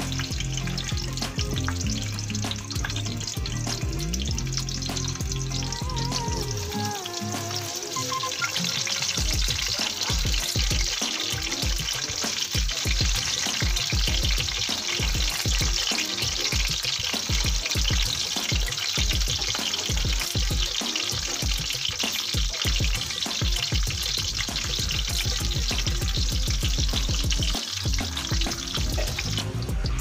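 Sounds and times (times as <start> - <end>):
background music with beat: 0.0 - 30.0
eggplant sizzling in oil: 0.0 - 30.0.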